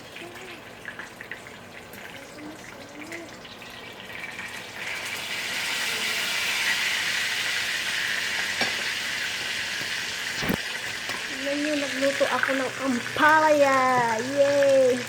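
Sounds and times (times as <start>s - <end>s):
water running from a tap: 0.0s - 8.5s, 9.4s - 15.0s.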